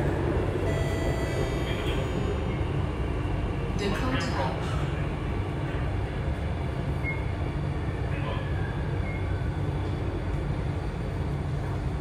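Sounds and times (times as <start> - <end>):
metro wheels rumbling: 0.0 - 12.0.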